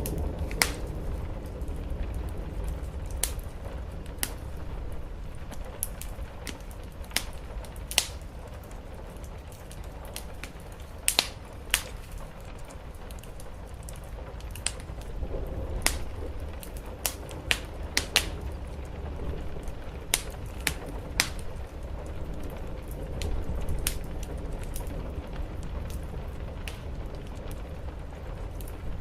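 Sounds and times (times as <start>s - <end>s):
rain on the roof: 0.0s - 29.0s
wood fire crackling: 0.0s - 29.0s.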